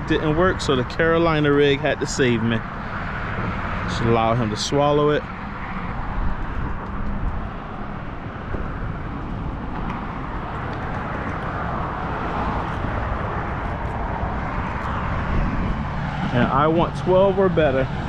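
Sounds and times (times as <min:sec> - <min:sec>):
road traffic hiss: 0:00.0 - 0:18.0
wind rumbling on microphone: 0:00.0 - 0:18.0.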